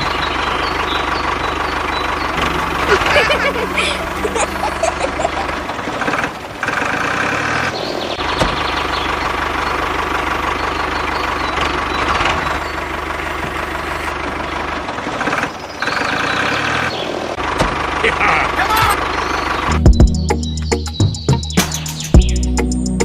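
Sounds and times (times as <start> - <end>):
mini tractor engine running: 0.0 - 19.7.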